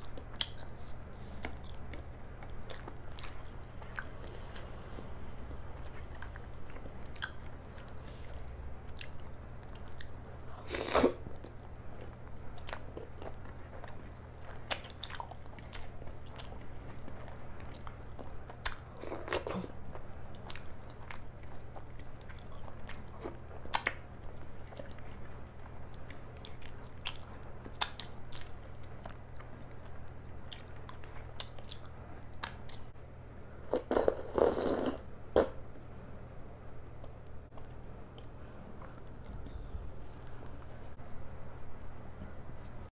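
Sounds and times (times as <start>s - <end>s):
person chewing food: 0.0s - 32.9s, 33.7s - 35.6s, 37.0s - 40.9s
steady low hum: 0.0s - 42.9s.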